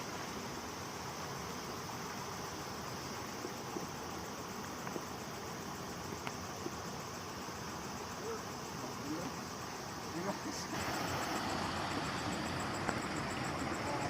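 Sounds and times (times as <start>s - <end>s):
constant hiss: 0.0s - 14.0s
night insects chirping: 0.0s - 14.0s.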